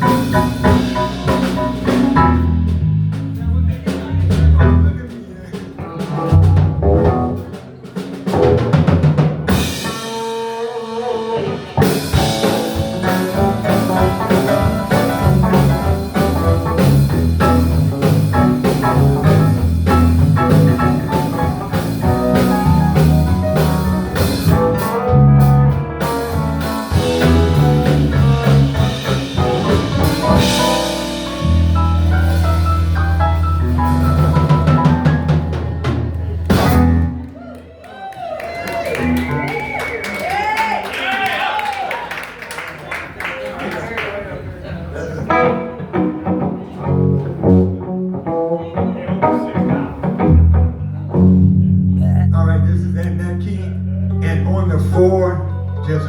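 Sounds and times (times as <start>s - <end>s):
live blues band playing: 0.0s - 40.9s, 44.9s - 56.0s.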